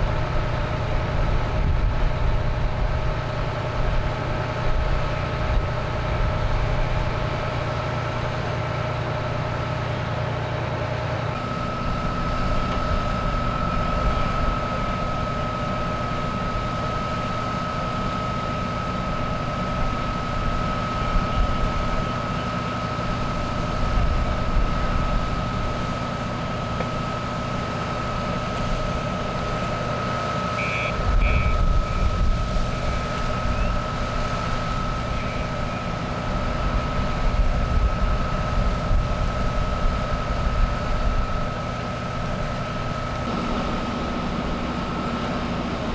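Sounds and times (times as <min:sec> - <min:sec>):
fire engine pump whining: 0:00.0 - 0:45.9.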